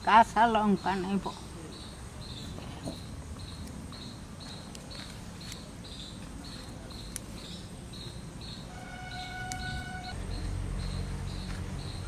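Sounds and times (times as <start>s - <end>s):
cricket chirping: 0.6s - 12.0s.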